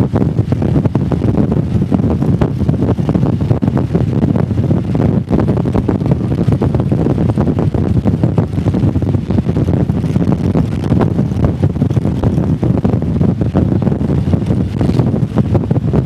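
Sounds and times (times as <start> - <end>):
motorcycle engine rumble: 0.0 - 16.0
wind buffeting microphone: 0.0 - 16.0.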